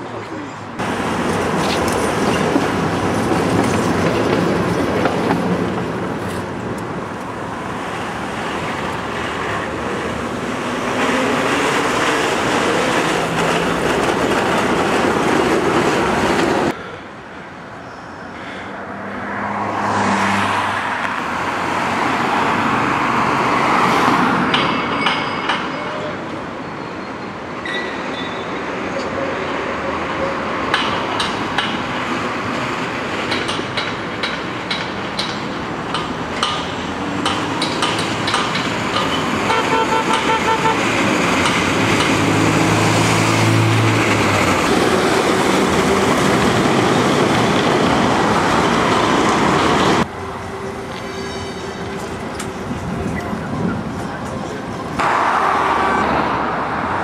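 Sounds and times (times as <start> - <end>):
passing car traffic: 0.0 - 27.6, 28.5 - 57.0
electric trams running on track: 0.0 - 57.0.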